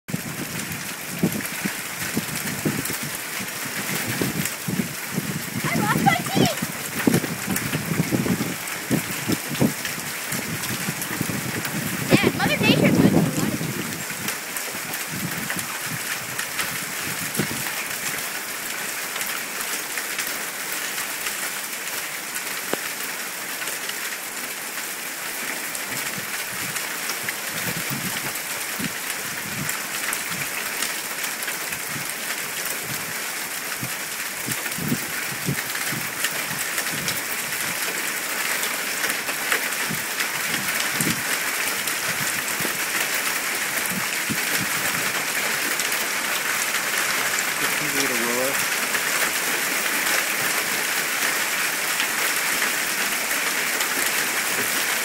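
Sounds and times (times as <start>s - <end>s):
hailstones pelting mulch: 0.1s - 55.0s.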